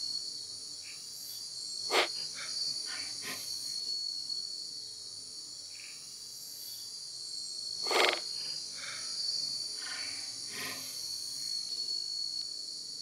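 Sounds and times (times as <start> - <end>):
crickets and night insects chirping: 0.0 - 13.0.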